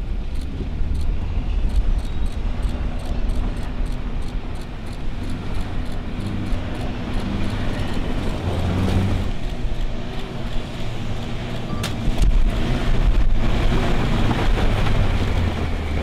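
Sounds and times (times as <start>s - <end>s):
suv engine under hard throttle: 0.0s - 16.0s
tyres churning dirt and gravel: 0.0s - 16.0s.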